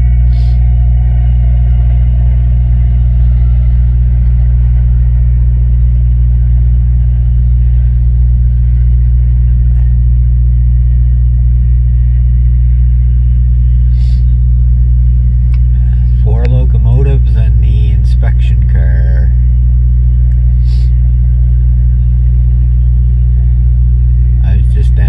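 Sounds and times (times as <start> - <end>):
car driving interior rumble: 0.0 - 25.0.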